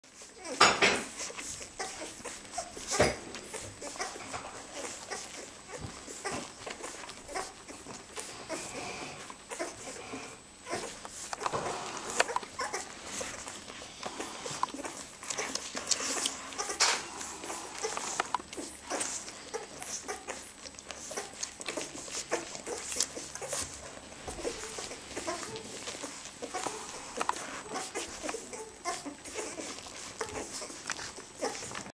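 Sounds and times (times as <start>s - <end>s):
puppies sucking and smacking: 0.0s - 32.0s
puppy squeaking: 0.2s - 8.9s, 9.5s - 13.6s, 14.4s - 31.9s.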